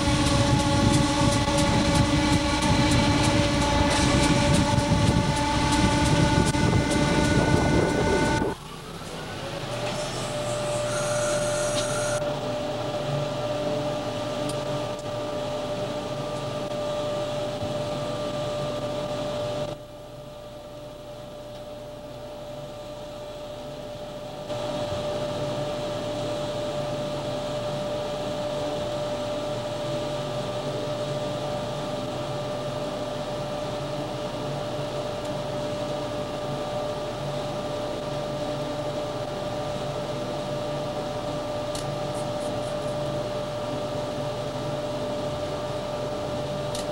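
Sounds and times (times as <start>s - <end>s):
constant high whine: 0.0s - 46.9s
fan-like whir: 0.0s - 46.9s.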